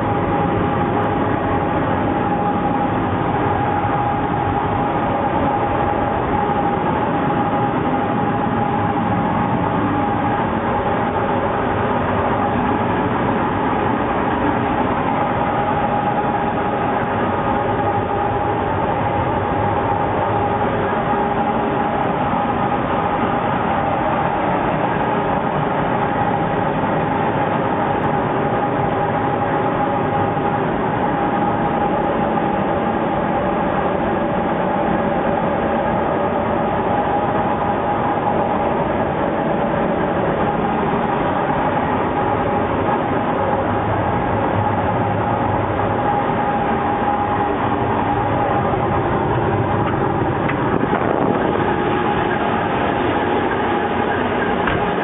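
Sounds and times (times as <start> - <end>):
diesel locomotive engine: 0.0 - 55.0
steady whine: 0.0 - 55.0.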